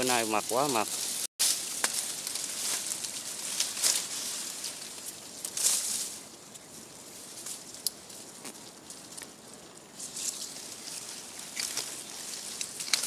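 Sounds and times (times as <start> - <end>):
dry leaves and twigs rustling: 0.0 - 13.0
twigs crackling and snapping: 0.0 - 13.0.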